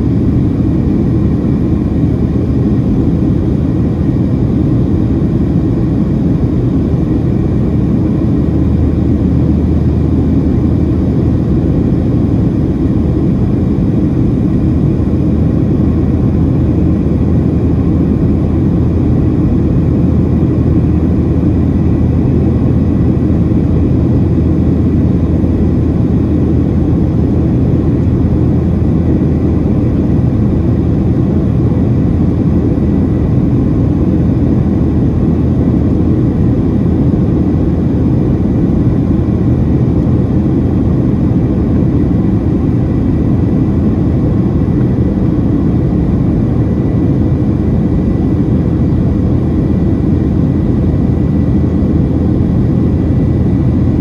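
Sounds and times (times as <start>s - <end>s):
airplane cabin drone: 0.0s - 54.0s
faint steady whine: 0.0s - 54.0s.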